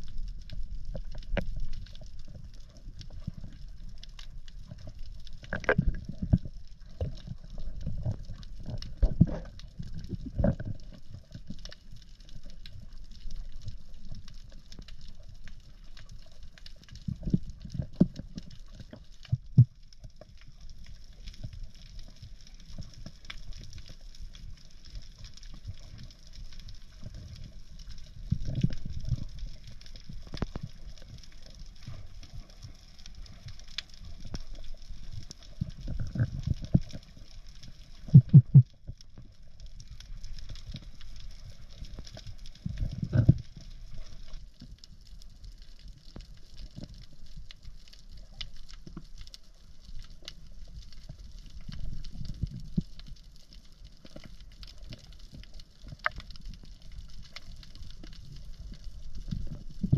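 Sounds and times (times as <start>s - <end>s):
faint scattered clicks: 0.0s - 59.9s
muffled underwater water rumbles: 0.0s - 59.9s.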